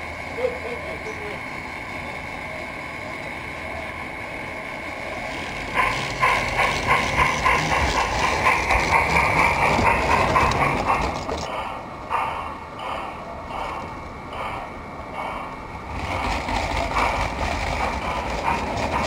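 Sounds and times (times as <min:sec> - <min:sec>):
model train hum and whine: 0:00.0 - 0:19.0
rhythmic train wheel clatter: 0:00.0 - 0:19.0.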